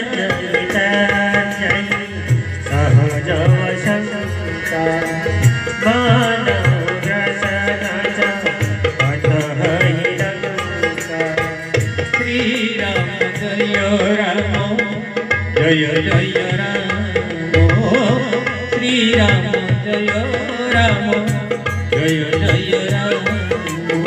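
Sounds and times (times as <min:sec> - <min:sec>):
harmonium melody: 0:00.0 - 0:24.0
tabla rhythm: 0:00.0 - 0:24.0.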